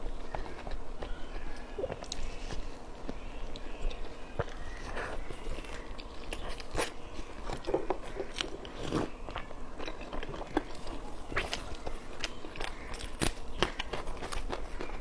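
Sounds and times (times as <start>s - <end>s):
person chewing food: 0.0s - 15.0s
small crunches: 0.2s - 15.0s.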